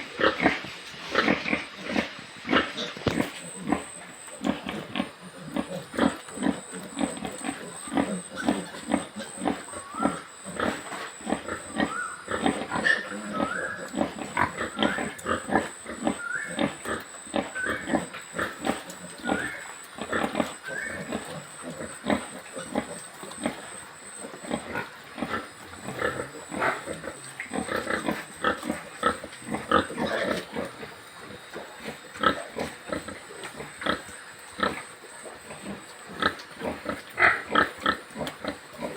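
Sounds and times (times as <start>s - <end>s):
faint high whine: 0.0s - 38.9s
pigs grunting: 0.0s - 38.9s
pigs squealing: 0.0s - 38.9s.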